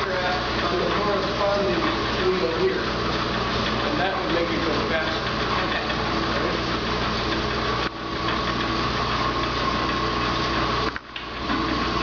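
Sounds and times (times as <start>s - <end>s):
line shafting mechanical whir: 0.0s - 12.0s.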